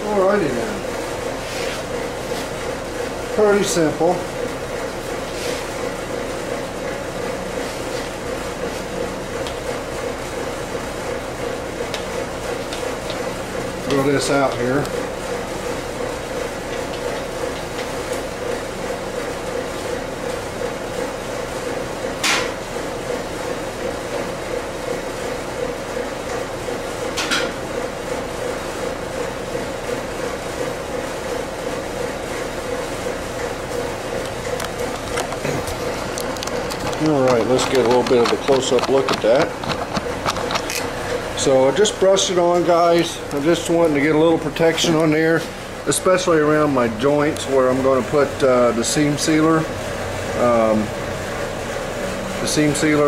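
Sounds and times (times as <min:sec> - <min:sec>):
mechanical hum: 0:00.0 - 0:53.0.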